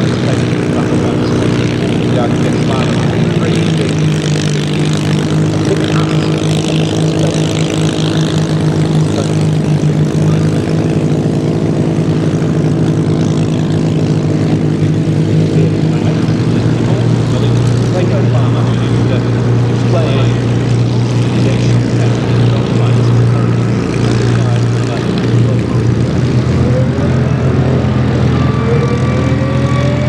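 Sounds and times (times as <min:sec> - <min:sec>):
aircraft engine idling: 0:00.0 - 0:30.0.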